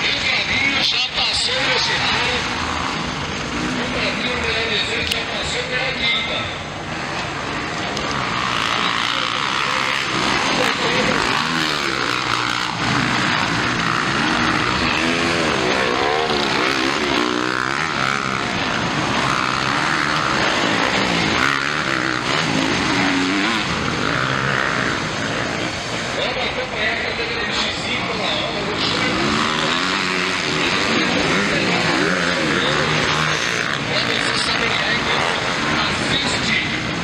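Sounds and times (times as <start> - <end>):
motocross bike engines revving: 0.0 - 37.0.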